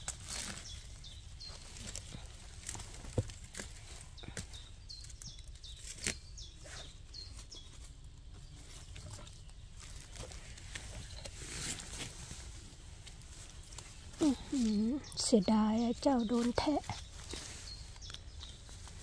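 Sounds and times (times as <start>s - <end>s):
small bird calling: 0.0s - 12.1s, 13.3s - 19.0s
rustling in dry leaf litter: 0.0s - 19.0s.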